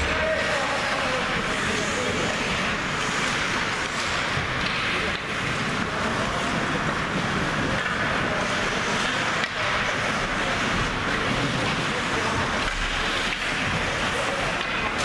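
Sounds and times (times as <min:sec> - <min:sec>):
indistinct voices in arena: 0:00.0 - 0:15.0.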